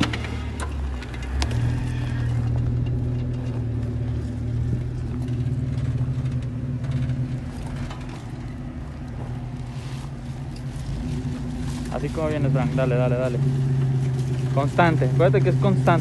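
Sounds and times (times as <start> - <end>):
off-road engine running: 0.0 - 16.0.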